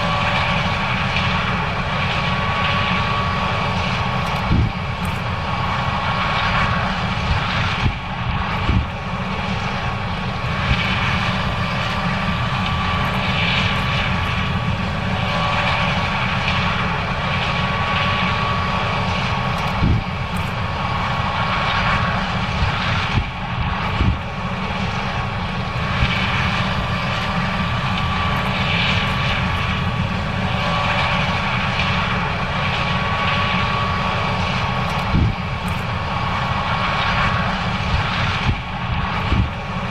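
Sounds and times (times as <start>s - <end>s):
combine harvester engine drone: 0.0s - 39.9s
high machine whine: 0.0s - 39.9s.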